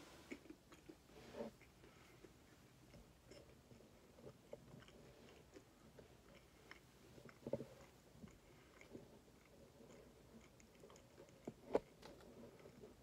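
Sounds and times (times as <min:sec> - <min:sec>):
chewing crispy food: 0:00.3 - 0:13.0.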